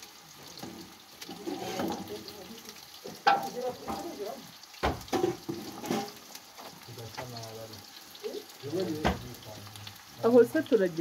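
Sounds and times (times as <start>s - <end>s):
carrots sizzling in a pot: 0.0s - 11.0s.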